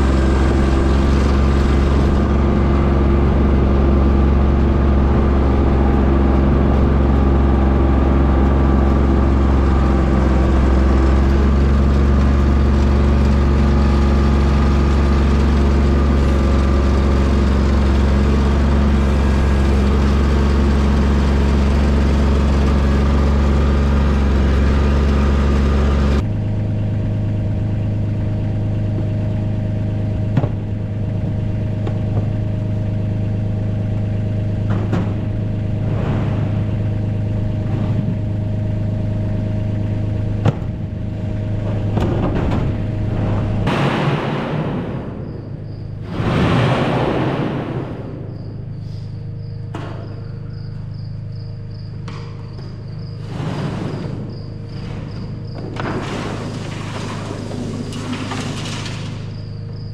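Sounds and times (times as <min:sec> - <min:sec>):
engine idling: 0:00.0 - 0:59.9
loader engine running: 0:00.0 - 0:59.9.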